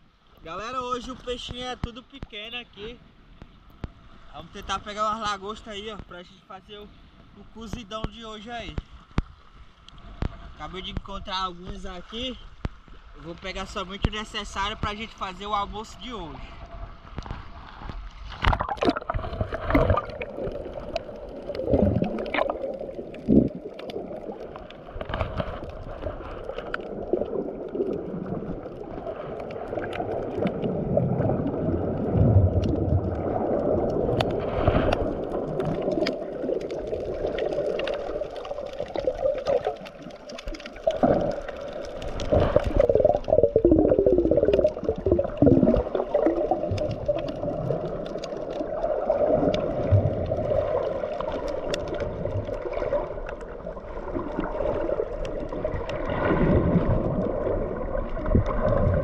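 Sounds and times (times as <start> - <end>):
water gurgling and sloshing: 7.0 - 59.0.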